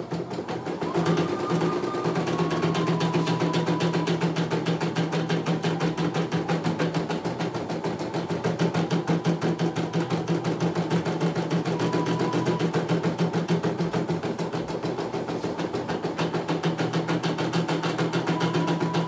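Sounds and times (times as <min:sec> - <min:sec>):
steady motor hum: 0:00.0 - 0:19.0.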